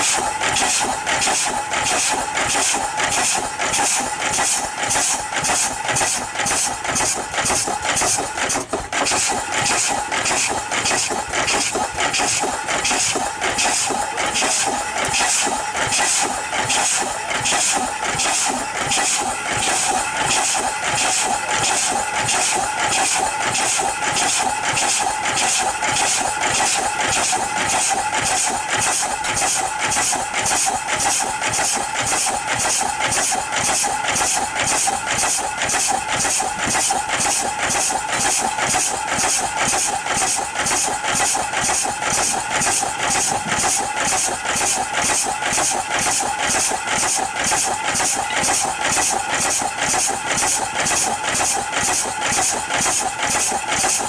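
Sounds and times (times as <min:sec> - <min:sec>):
steam engine chuffing: 0:00.0 - 0:54.0.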